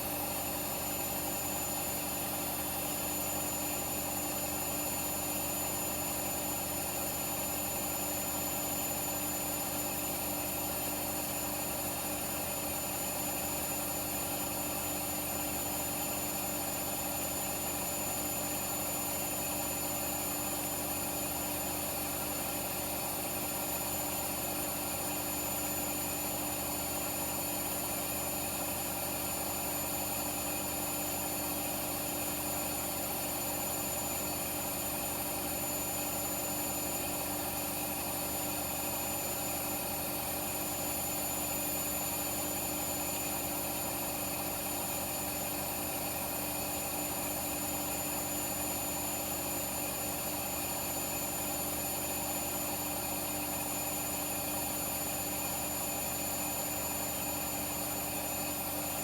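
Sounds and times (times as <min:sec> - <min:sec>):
washing machine motor hum: 0:00.0 - 0:59.0.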